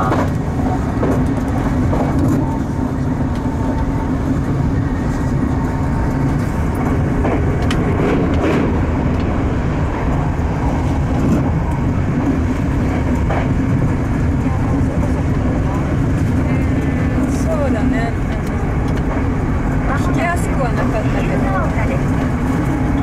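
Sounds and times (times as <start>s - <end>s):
electric train rumbling on rails: 0.0s - 23.0s.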